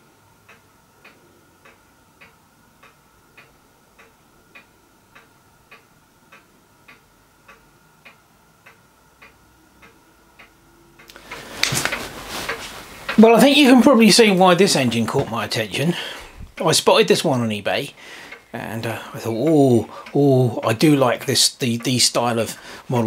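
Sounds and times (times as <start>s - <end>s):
faint high hum: 0.0s - 23.0s
faint regular ticking: 0.2s - 23.0s.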